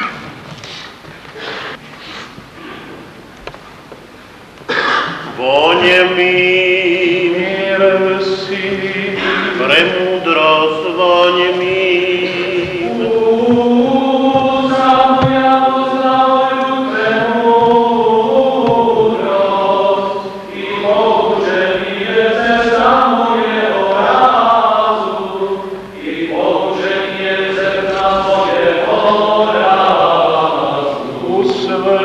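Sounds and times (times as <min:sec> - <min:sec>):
voices singing liturgical chant: 0:05.4 - 0:32.0.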